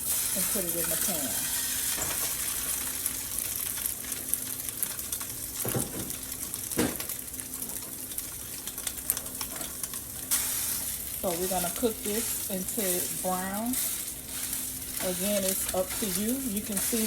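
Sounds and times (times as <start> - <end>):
sausage sizzling in a pan: 0.0 - 17.0.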